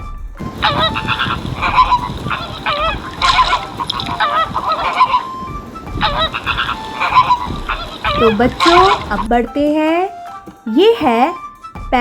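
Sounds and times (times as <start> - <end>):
flamingos honking: 0.4 - 10.1.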